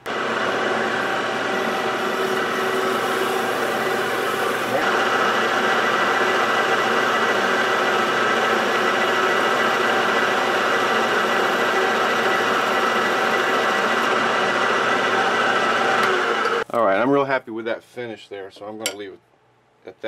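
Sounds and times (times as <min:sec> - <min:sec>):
metal lathe running: 0:00.0 - 0:16.6.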